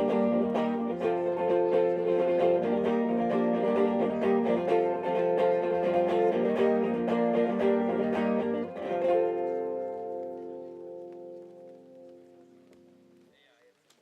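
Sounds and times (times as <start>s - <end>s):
strummed string instrument: 0.0s - 12.1s.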